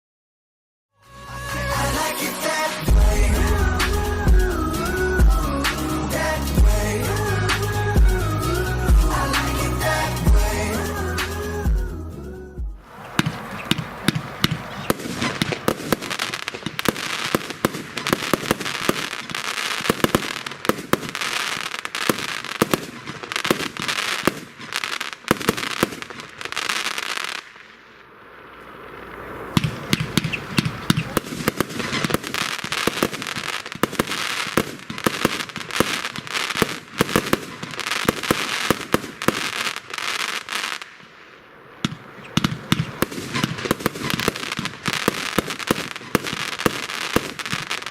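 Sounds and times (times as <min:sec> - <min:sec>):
fireworks launching and bursting: 0:01.0 - 0:12.0, 0:12.8 - 0:47.9.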